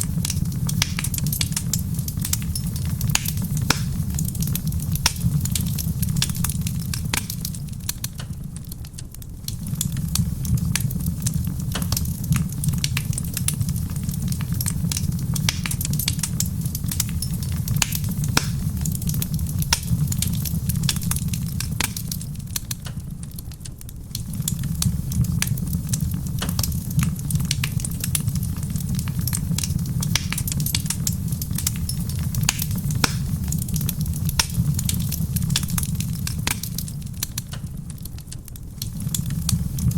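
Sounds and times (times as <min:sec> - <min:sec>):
steady low rumble: 0:00.0 - 0:39.9
wood fire crackling and popping: 0:00.0 - 0:39.9.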